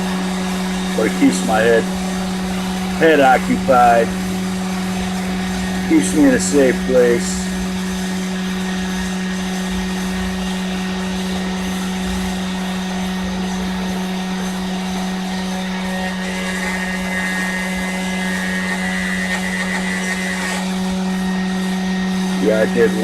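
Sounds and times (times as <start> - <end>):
high whine: 0.0 - 23.0
spindle motor humming: 0.0 - 23.0.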